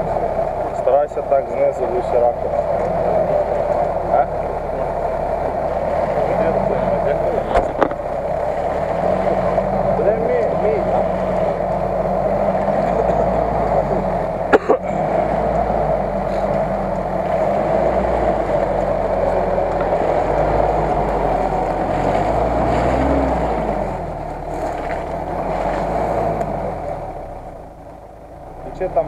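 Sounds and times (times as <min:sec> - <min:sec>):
car engine running under load: 0:00.0 - 0:29.0.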